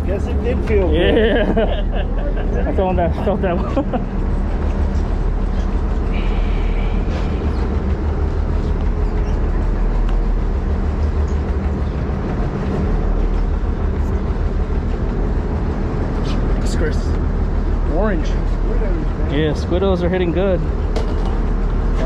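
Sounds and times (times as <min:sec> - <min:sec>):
boat engine rumbling: 0:00.0 - 0:22.0.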